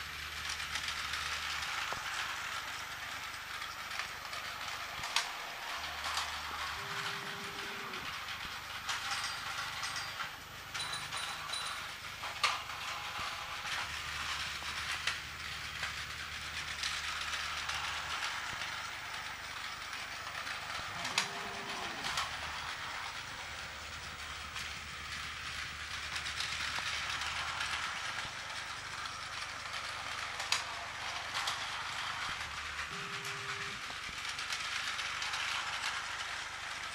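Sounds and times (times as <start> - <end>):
toy train motors whirring: 0.0 - 36.9.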